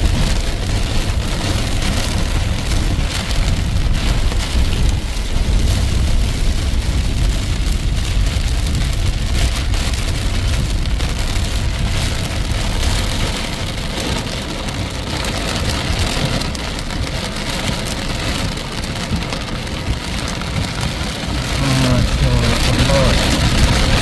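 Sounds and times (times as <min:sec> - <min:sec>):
deep rumble: 0:00.0 - 0:24.0
heavy rain pouring: 0:00.0 - 0:24.0.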